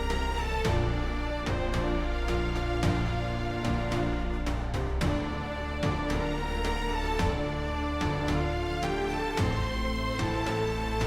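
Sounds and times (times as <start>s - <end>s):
background music with sustained tones: 0.0s - 11.0s.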